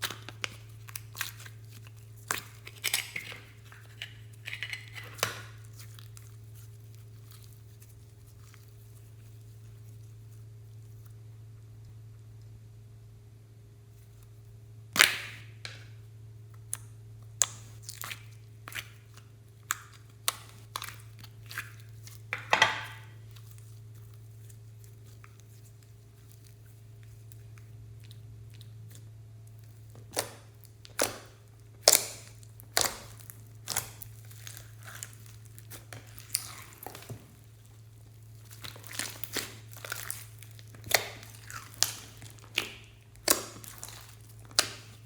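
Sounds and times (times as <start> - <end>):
slime popping and crackling: 0.0 - 8.9, 17.4 - 45.0.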